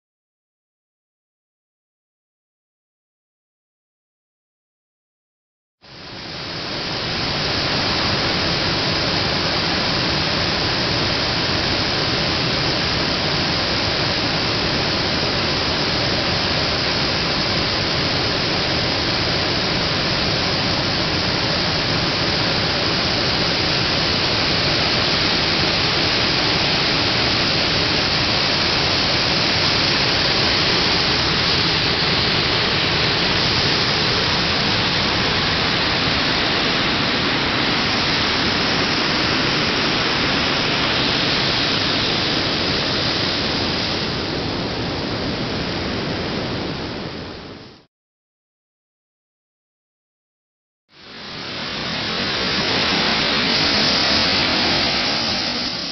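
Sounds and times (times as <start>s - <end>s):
floodwater rushing over a ledge: 6.0s - 47.2s, 51.0s - 55.9s.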